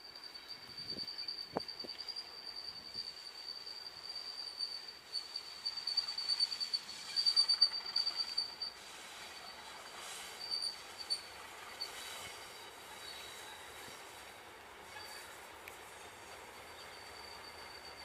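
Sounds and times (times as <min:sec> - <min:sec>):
faint train running rumble: 0:00.0 - 0:18.0
train wheel flange squeal: 0:00.0 - 0:18.0.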